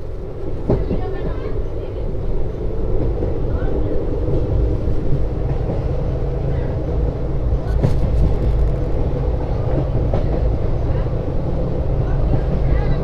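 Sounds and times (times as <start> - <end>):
diesel locomotive rumble: 0.0 - 13.0
train clatter: 0.0 - 13.0.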